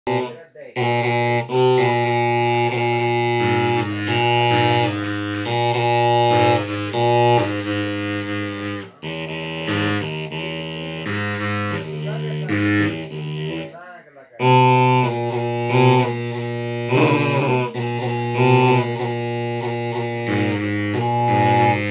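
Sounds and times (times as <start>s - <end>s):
bamboo flutes playing melody: 0.1s - 21.9s.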